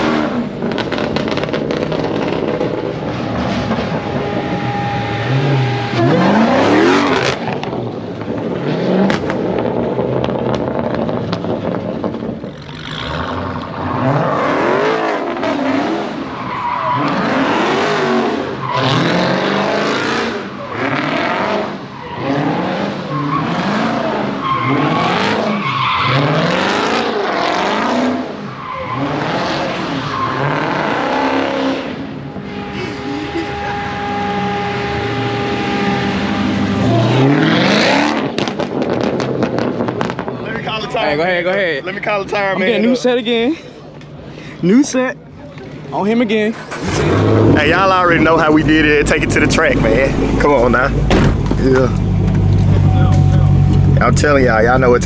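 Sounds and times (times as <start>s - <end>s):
car engine revving: 0.0s - 40.4s, 46.5s - 55.0s
tires squealing on pavement: 0.0s - 42.1s, 46.4s - 55.0s.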